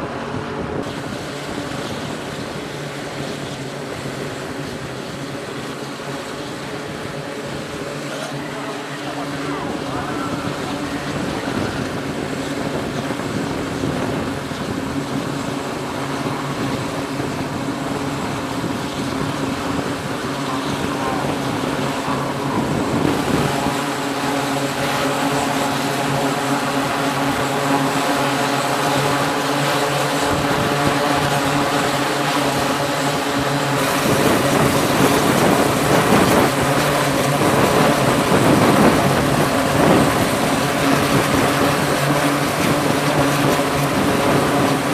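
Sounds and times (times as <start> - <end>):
turboprop engines droning: 0.0 - 44.9.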